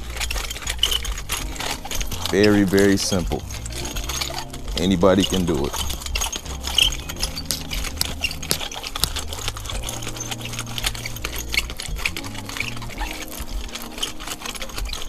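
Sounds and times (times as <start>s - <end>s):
cultivator tines scraping soil: 0.0s - 15.0s.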